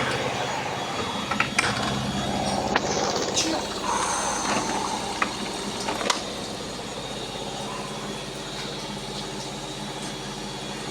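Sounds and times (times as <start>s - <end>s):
washing machine drum spinning: 0.0s - 10.9s.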